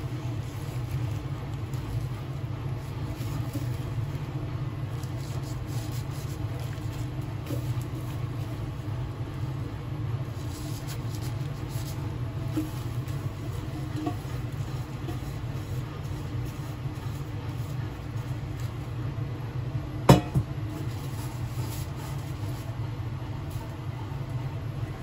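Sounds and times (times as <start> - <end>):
faint handling rustles: 0.0 - 25.0
low mechanical rumble: 0.0 - 25.0.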